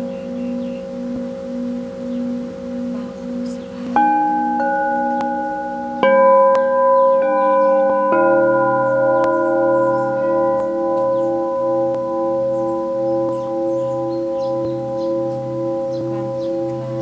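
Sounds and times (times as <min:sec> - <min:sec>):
crystal singing bowls ringing: 0:00.0 - 0:17.0.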